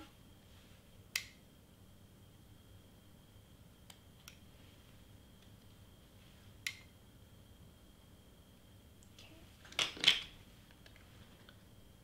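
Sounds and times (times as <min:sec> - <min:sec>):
faint high whine: 0:00.0 - 0:09.7, 0:10.3 - 0:12.0.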